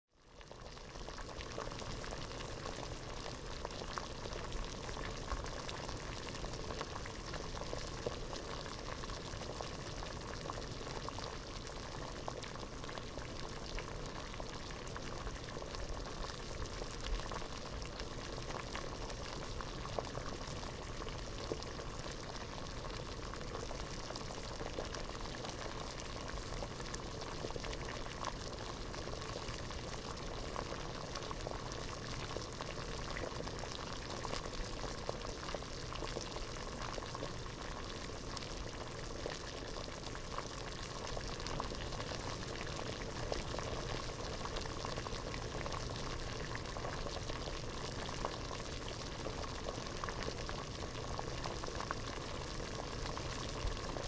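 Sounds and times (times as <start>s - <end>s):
water boiling in a pot: 0.1s - 54.0s.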